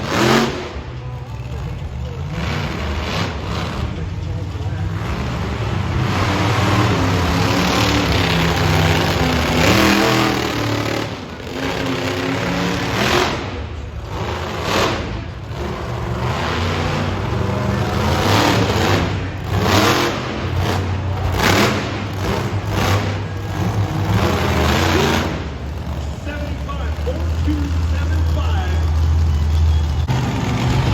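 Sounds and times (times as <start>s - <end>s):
truck engine revving: 0.0s - 30.9s.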